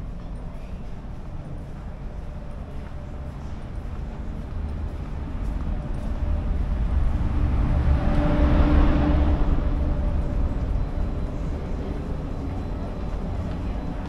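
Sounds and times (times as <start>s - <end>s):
wind rumbling on microphone: 0.8s - 14.0s.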